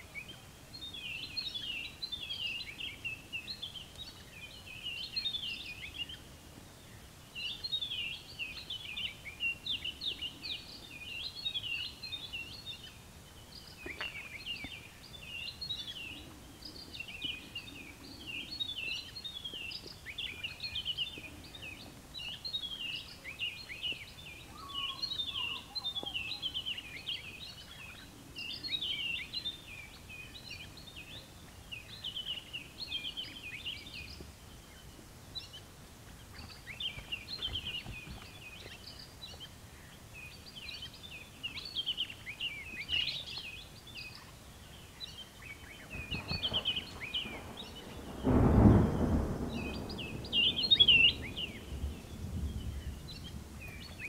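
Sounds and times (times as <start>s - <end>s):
faint background hiss: 0.0s - 54.0s
small birds chirping: 0.0s - 54.0s
low bird call: 6.9s - 54.0s.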